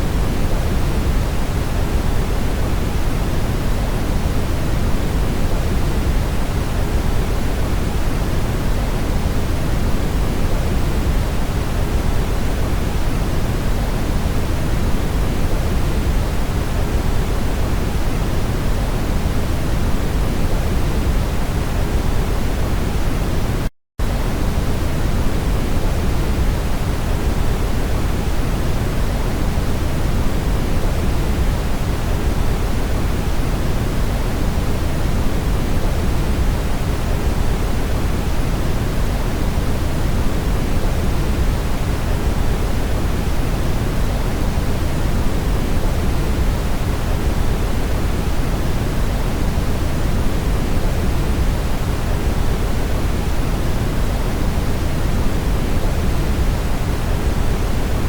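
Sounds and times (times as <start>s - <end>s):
low hiss of brown noise: 0.0s - 58.0s.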